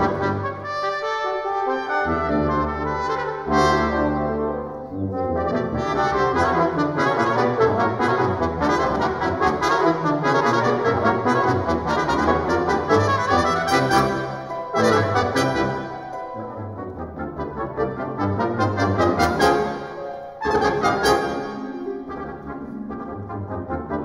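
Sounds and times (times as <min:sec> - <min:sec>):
brass ensemble with harp: 0:00.0 - 0:24.0.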